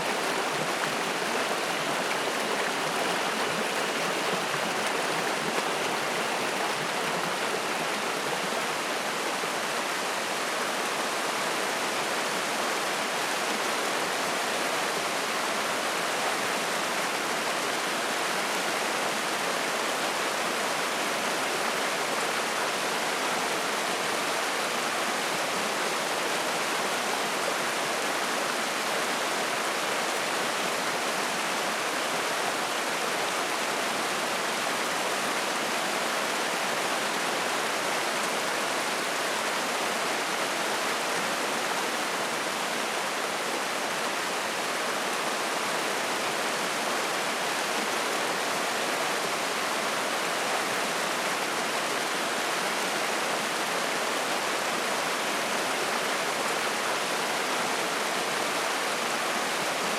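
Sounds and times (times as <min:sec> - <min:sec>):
stream flowing and splashing: 0:00.0 - 0:13.7, 0:25.2 - 0:59.9.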